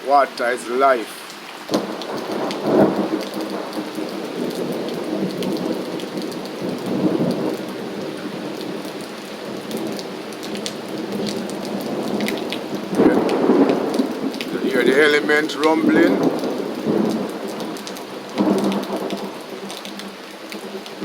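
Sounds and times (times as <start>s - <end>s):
raindrops ticking: 0.0s - 21.0s
steady rain falling: 0.0s - 21.0s
low rumble of thunder: 1.7s - 21.0s.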